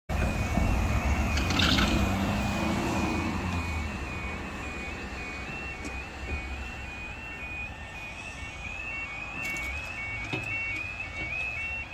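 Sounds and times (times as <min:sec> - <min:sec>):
two-tone crossing alarm: 0:00.1 - 0:11.9
van engine and tyres: 0:00.1 - 0:11.9.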